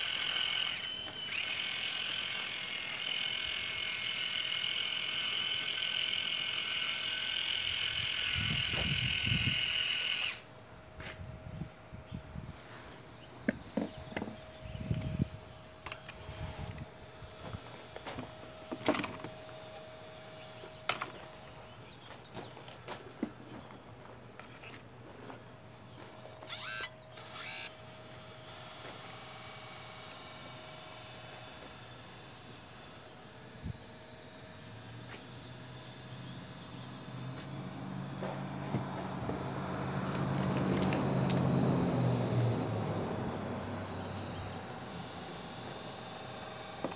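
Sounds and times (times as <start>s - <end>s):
electric pump whining: 0.0s - 46.9s.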